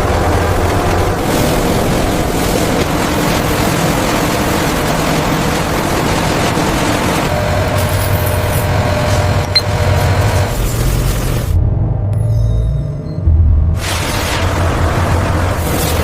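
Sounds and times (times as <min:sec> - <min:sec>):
large machine running: 0:00.0 - 0:16.0.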